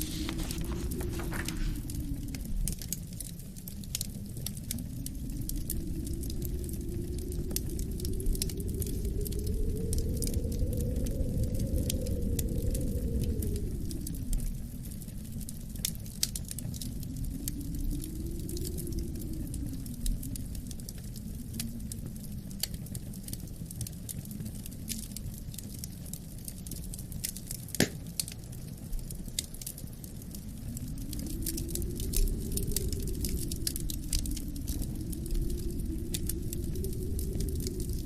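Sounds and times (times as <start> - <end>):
low wind rumble: 0.0 - 38.0
wood fire crackling and popping: 0.0 - 38.0.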